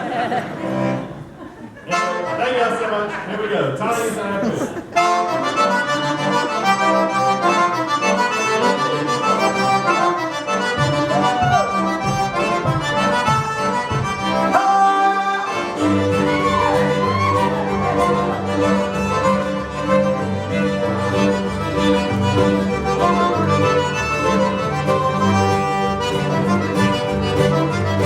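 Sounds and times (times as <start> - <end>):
band with accordion playing: 0.0 - 28.0.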